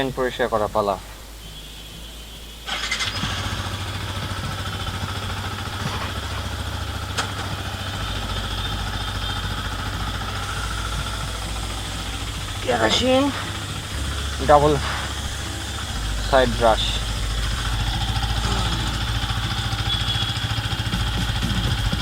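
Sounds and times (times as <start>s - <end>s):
motorcycle engine starting and idling: 2.6s - 22.0s.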